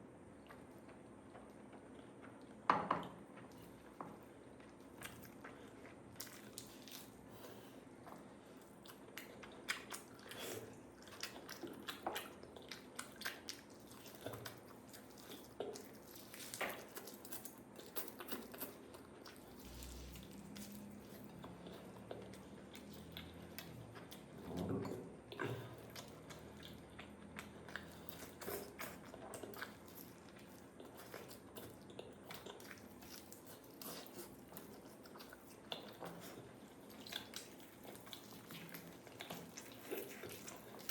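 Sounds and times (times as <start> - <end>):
person chewing food: 0.4 - 40.9
food crunching: 4.5 - 24.5, 25.2 - 40.9.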